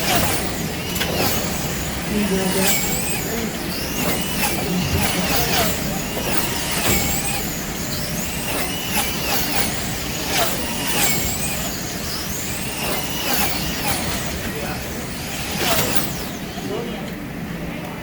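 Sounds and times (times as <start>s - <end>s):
slot car electric motors whining: 0.0s - 18.0s.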